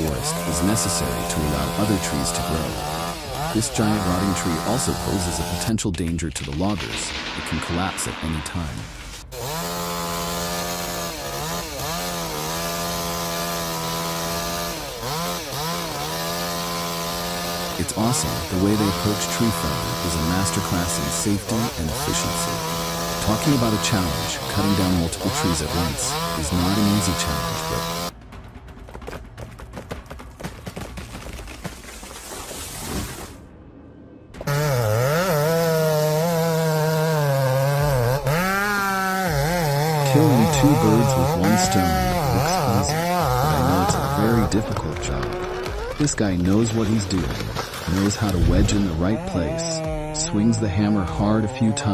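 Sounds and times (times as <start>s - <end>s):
chainsaw cutting tree: 0.0s - 5.8s, 9.1s - 28.2s, 34.4s - 51.9s.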